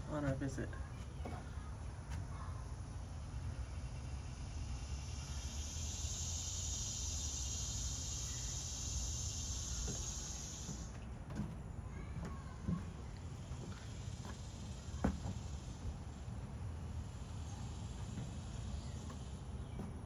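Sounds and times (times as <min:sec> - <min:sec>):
high insect drone: 0:02.6 - 0:20.0.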